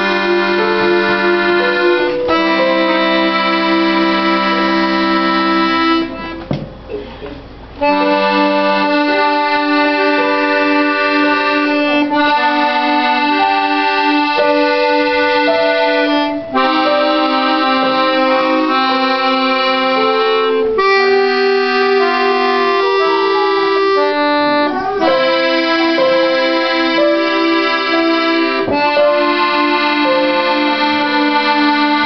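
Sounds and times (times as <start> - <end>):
button accordions playing a tune: 0.0 - 32.0.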